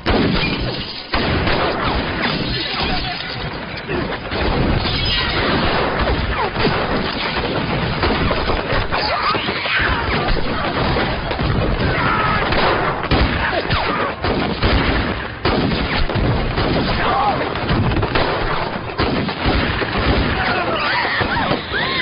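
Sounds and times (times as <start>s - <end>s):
heavy gunfire volleys: 0.0s - 22.0s.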